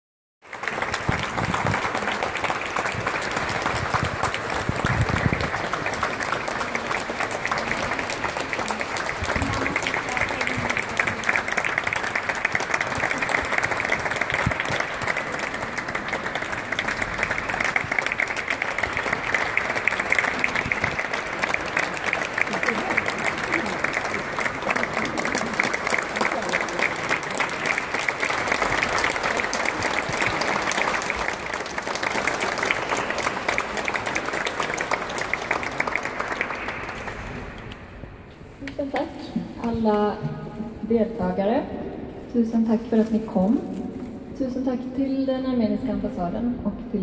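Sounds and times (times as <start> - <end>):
audience applauding: 0.4 - 39.9.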